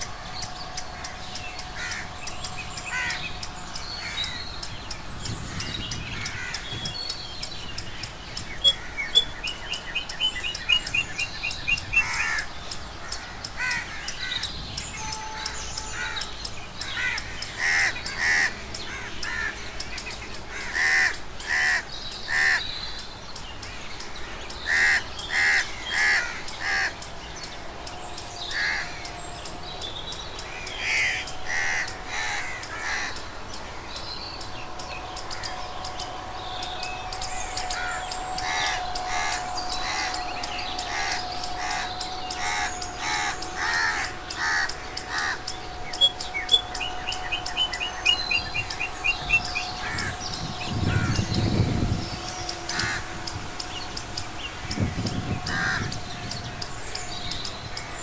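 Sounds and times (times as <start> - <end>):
birds chirping: 0.0 - 58.0
birds harsh calls: 0.0 - 58.0.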